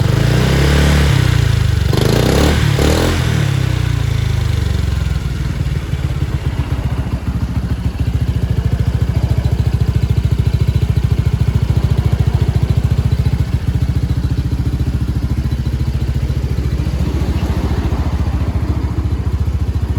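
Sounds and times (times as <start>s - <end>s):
scooter engine idling: 0.0s - 19.9s.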